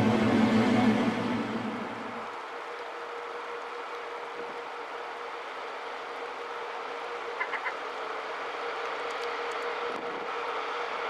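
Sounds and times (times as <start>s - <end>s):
rail grinder engine hum: 0.0s - 11.0s.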